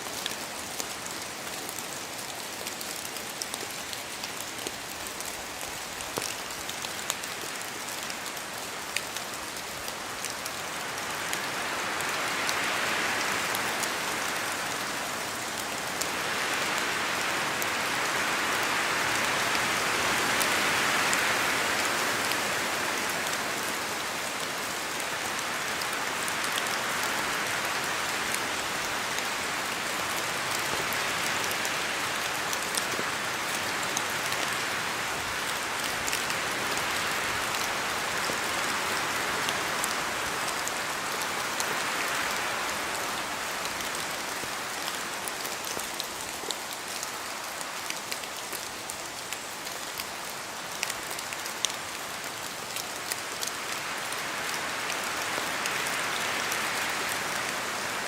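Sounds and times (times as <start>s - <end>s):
rain and wind in forest: 0.0s - 58.0s.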